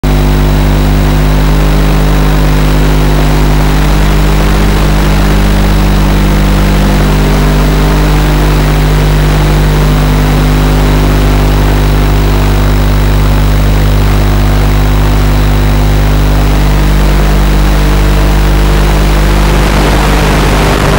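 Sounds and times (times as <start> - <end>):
drone motors humming: 0.0 - 20.9.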